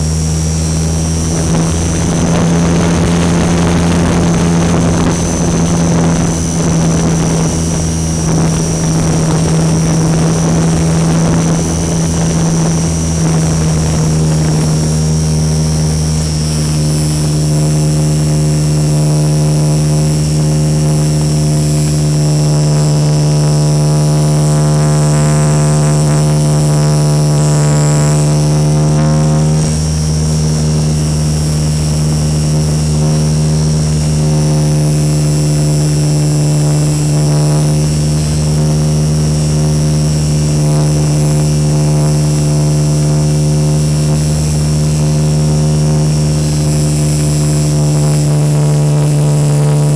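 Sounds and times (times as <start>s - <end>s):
model plane motor droning: 0.0s - 49.9s
rushing air noise: 0.0s - 49.9s.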